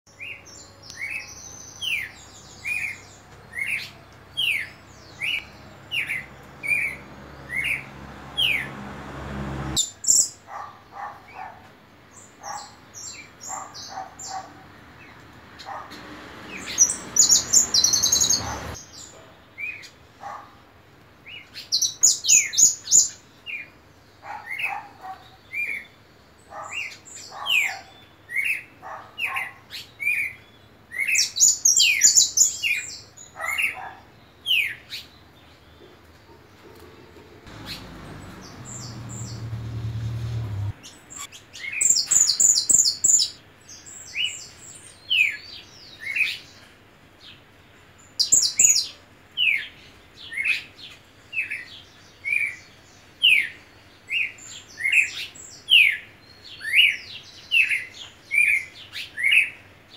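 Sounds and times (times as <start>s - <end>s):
other birds chirping: 0.1s - 59.9s.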